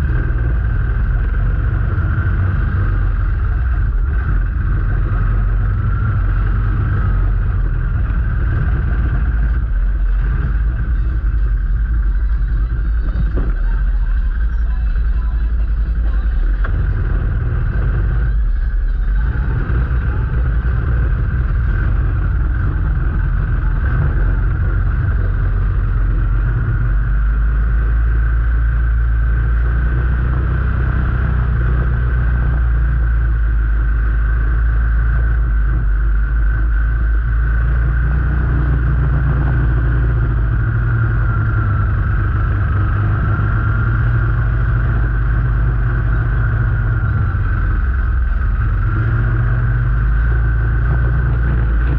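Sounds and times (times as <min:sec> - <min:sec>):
thin whine: 0:00.0 - 0:51.9
vehicle engine drone: 0:00.0 - 0:51.9.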